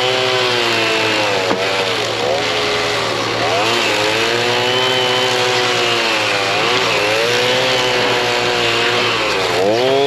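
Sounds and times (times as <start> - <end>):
chainsaw cutting wood: 0.0 - 10.0.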